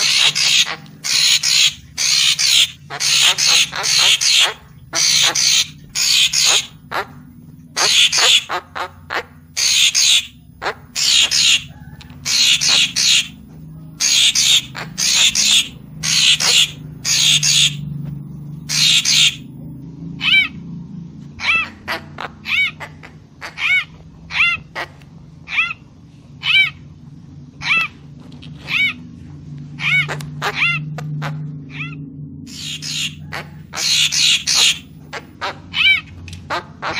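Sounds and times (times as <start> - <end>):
bird calling: 0.0 - 20.6, 21.4 - 26.9, 27.6 - 29.1, 29.8 - 36.9.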